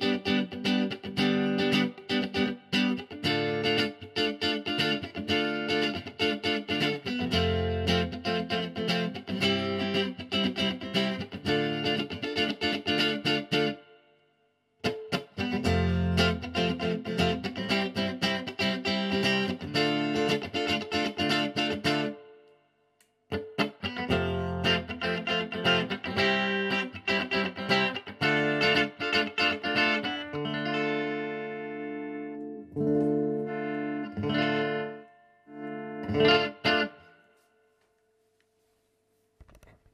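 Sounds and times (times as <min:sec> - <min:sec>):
clean electric guitar chords: 0:00.0 - 0:14.0, 0:14.8 - 0:22.4, 0:23.3 - 0:37.2.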